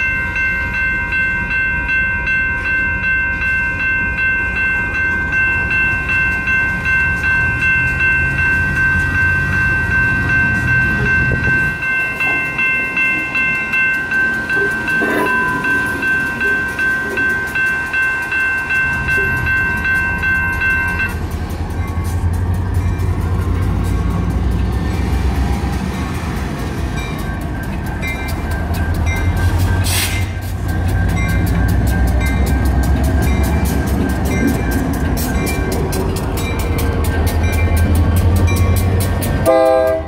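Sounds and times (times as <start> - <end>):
crossing warning bells ringing: 0.0 - 40.0
diesel locomotives rumbling: 0.0 - 40.0.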